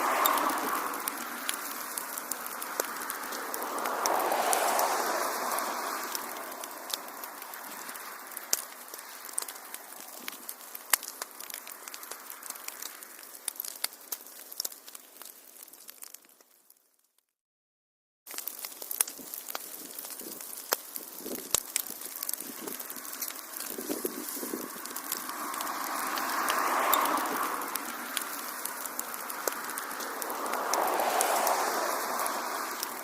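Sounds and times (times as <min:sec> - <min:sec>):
wood fire crackling and popping: 0:00.0 - 0:17.0, 0:18.3 - 0:33.0.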